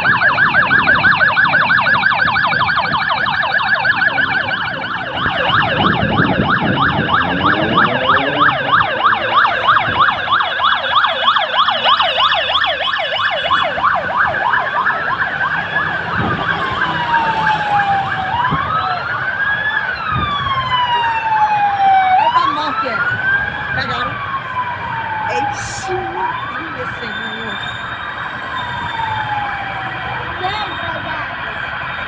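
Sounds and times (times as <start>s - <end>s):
police sirens yelping and wailing: 0.0s - 32.0s
vehicle engines running: 0.0s - 32.0s.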